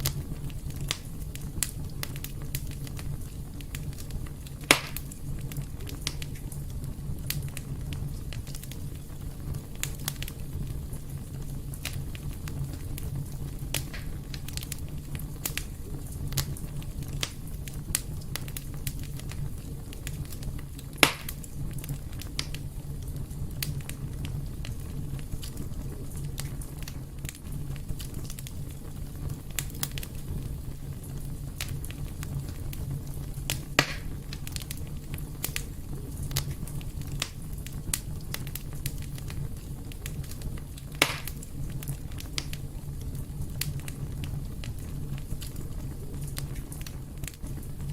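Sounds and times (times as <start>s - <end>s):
fire crackling: 0.0s - 47.9s
fire popping: 0.0s - 47.9s
fire rumbling in a fireplace: 0.0s - 47.9s.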